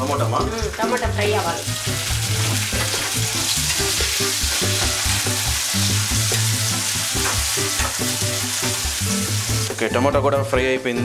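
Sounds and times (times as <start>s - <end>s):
vegetables sizzling in hot oil: 0.0s - 9.8s.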